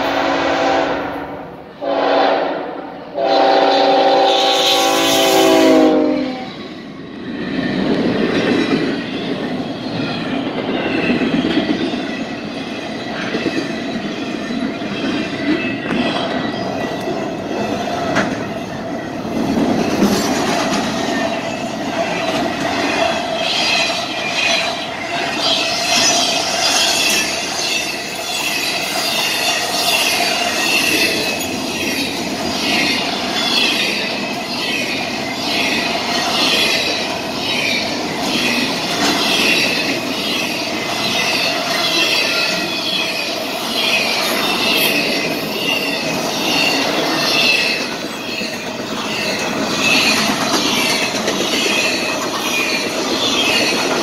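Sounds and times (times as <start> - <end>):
high whine of wheels on rails: 0.0 - 54.0
train wheels clattering over rail joints: 7.3 - 54.0.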